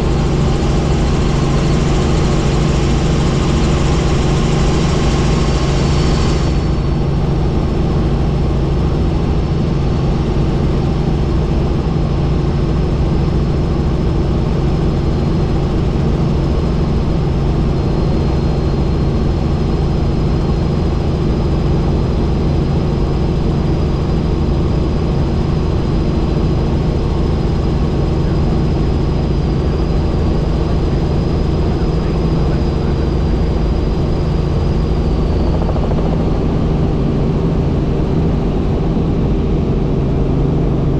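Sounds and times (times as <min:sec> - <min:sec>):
helicopter engine and rotor noise: 0:00.0 - 0:40.9
high steady whine: 0:00.0 - 0:40.9.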